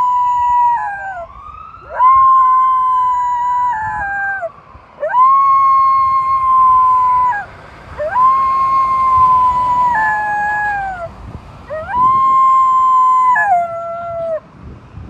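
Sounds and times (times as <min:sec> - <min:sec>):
dog howling: 0:00.0 - 0:11.1, 0:11.7 - 0:14.4
ambulance siren wailing: 0:00.0 - 0:14.5.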